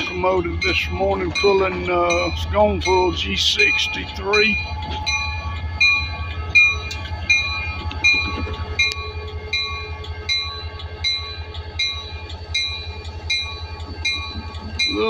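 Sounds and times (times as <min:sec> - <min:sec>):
bell ringing: 0:00.0 - 0:15.0
locomotive diesel engine throb: 0:00.0 - 0:15.0.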